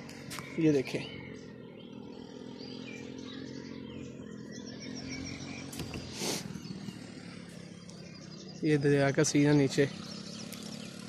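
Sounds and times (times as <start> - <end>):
bird trill: 0.0 - 11.0
small birds chirping: 0.0 - 11.0.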